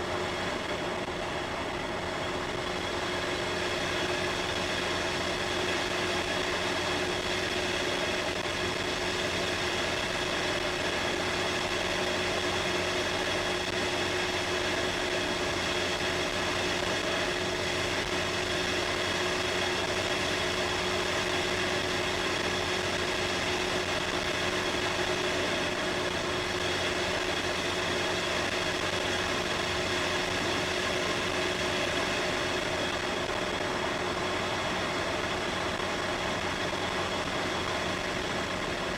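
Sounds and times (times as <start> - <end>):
car engine running steadily: 0.0 - 38.9.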